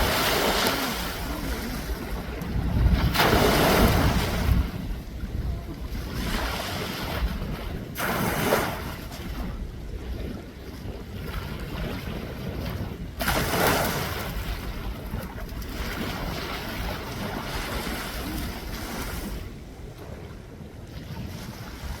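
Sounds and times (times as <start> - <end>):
sea waves washing on shore: 0.0 - 22.0
wind buffeting microphone: 0.0 - 22.0.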